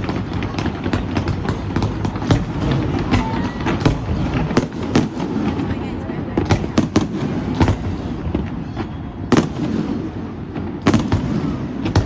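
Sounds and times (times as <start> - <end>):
fireworks bangs: 0.0 - 12.0
low rumble of distant fireworks: 0.0 - 12.0.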